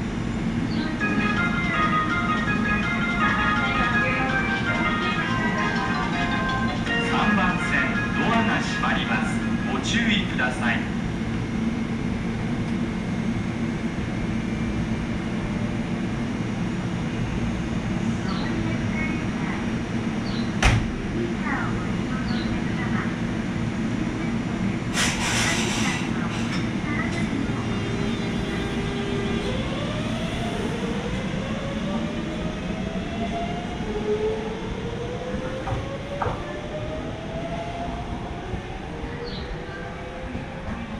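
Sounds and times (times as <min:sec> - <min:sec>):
train equipment humming: 0:00.0 - 0:40.9.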